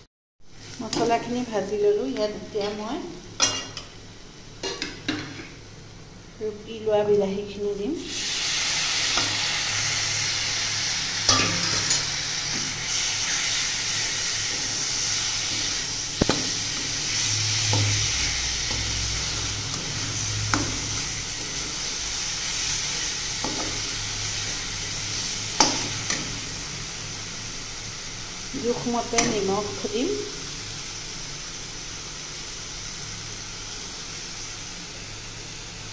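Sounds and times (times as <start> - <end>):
tomato sizzling in oil: 0.5 - 35.9.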